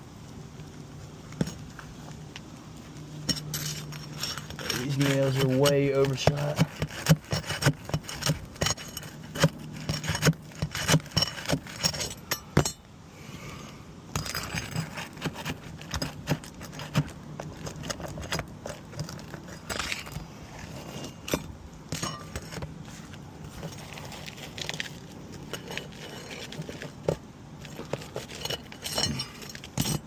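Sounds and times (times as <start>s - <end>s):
metal tool scraping roof shingles: 3.2s - 12.9s, 14.1s - 30.0s.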